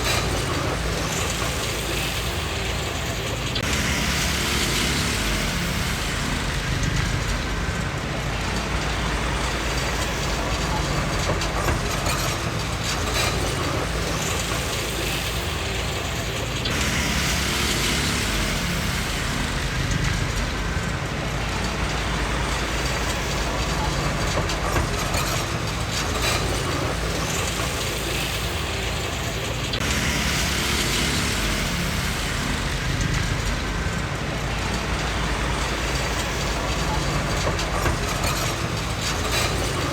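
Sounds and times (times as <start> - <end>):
bulldozer diesel engine running: 0.0 - 39.9
steel tracks clanking and rattling: 0.0 - 39.9.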